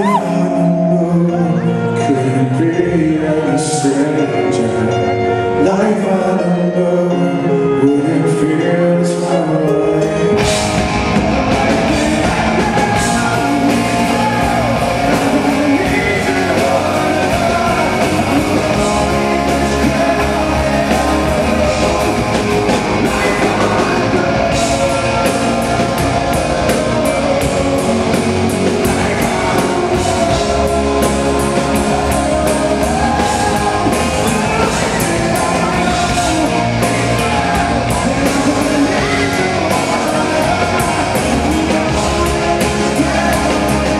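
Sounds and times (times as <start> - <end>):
drums: 0.0 - 1.4, 9.6 - 43.9
electric guitar: 0.0 - 43.9
man singing: 0.0 - 43.9
rock band playing: 0.0 - 43.9.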